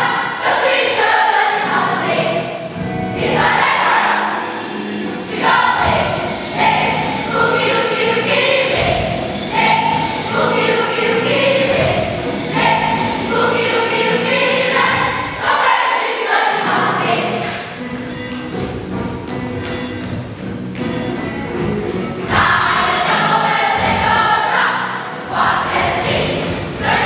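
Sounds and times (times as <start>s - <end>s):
children's choir singing: 0.0s - 17.8s, 22.2s - 27.0s
musical accompaniment: 0.0s - 27.0s.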